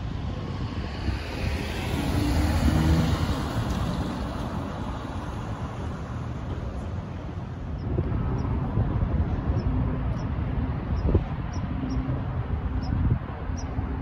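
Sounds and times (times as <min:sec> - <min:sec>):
city street traffic: 0:00.0 - 0:14.0
vehicle engine passing: 0:00.9 - 0:12.9.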